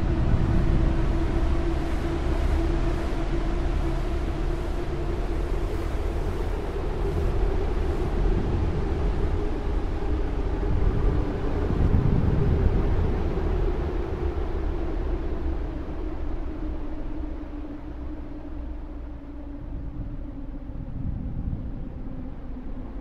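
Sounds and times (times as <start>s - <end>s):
rushing wind: 0.0s - 23.0s.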